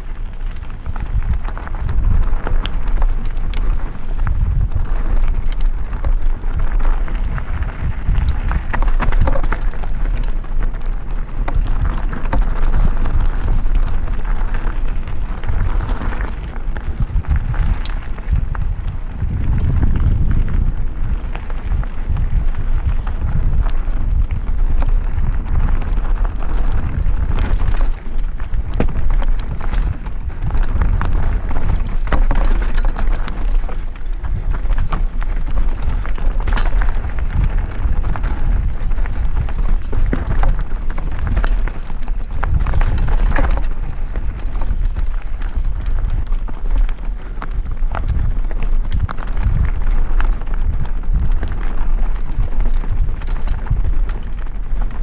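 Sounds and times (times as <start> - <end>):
bike clacking and rattling: 0.0 - 55.0
tyres crunching over gravel: 0.0 - 55.0
wind rumbling on microphone: 0.0 - 55.0.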